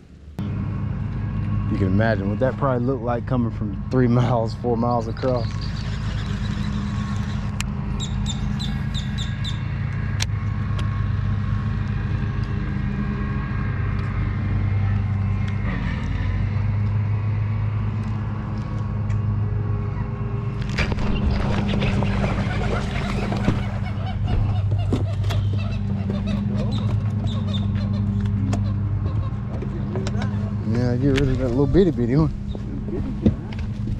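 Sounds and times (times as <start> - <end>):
boat motor running: 0.0 - 33.9.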